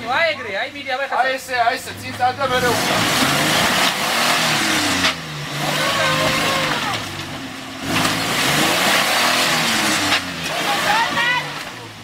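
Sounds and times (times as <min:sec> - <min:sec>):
suv engine revving: 0:01.4 - 0:12.0.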